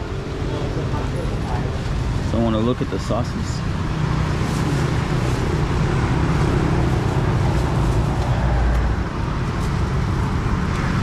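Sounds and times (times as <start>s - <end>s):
roadside traffic noise: 0.0s - 11.0s.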